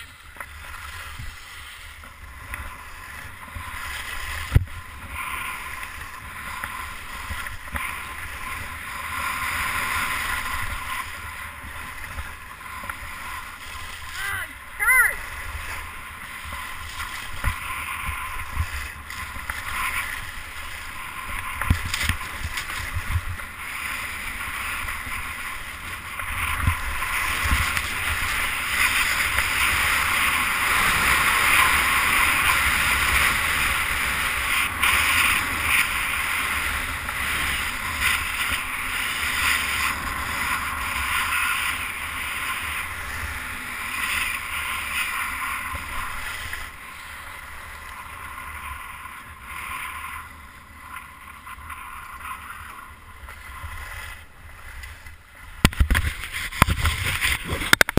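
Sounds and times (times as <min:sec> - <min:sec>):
skis hissing over snow: 0:00.0 - 0:57.7.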